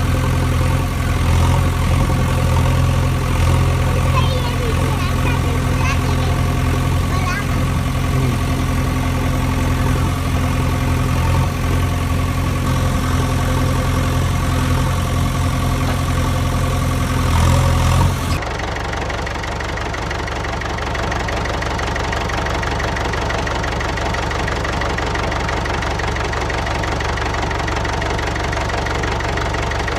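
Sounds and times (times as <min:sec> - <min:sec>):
engine running: 0:00.0 - 0:29.9.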